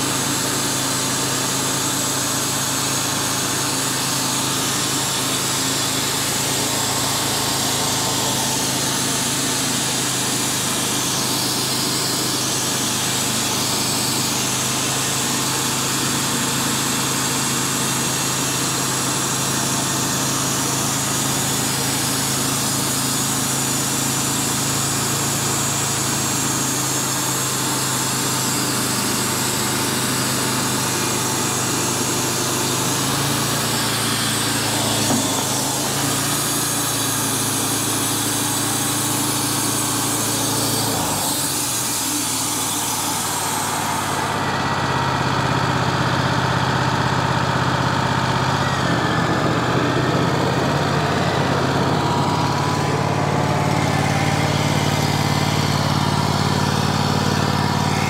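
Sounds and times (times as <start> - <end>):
high saw hiss: 0.0 - 45.2, 50.2 - 58.0
sawmill engine drone: 0.0 - 58.0.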